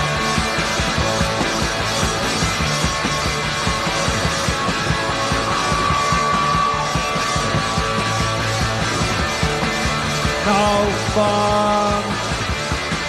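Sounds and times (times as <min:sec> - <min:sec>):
punk rock band playing: 0:00.0 - 0:13.0.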